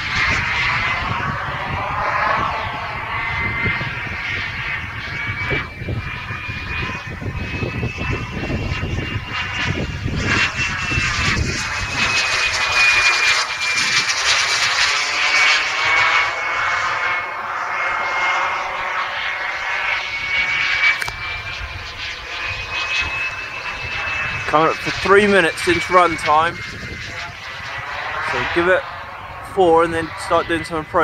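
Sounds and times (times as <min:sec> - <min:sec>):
gas turbine whine and jet rush: 0:00.0 - 0:31.0.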